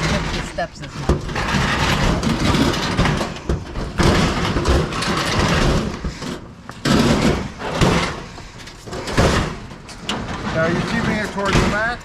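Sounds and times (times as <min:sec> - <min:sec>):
furniture scraping down steps: 0:00.0 - 0:11.9.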